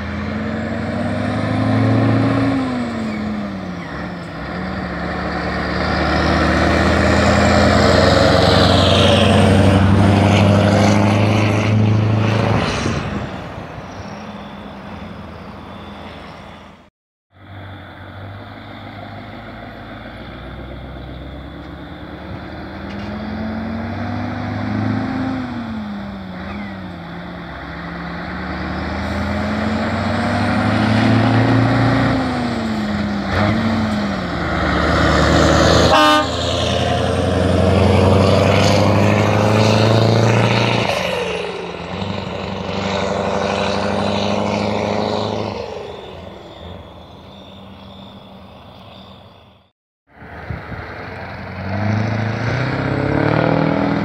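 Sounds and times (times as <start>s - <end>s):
diesel truck pulling away: 0.0s - 54.0s.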